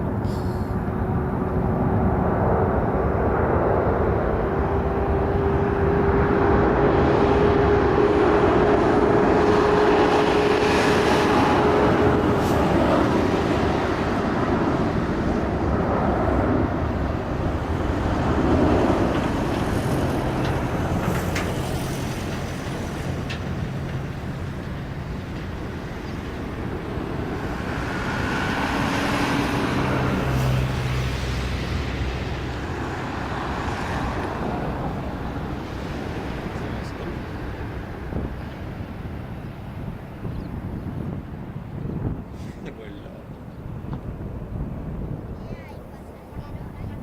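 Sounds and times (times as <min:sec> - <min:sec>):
jet engines rushing with whine: 0:00.0 - 0:47.0.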